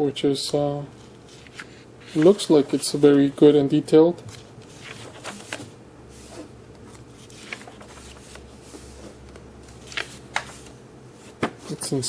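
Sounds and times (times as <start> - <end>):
low steady hum: 0.0 - 12.0
paper pages rustling: 1.0 - 3.3, 4.2 - 12.0.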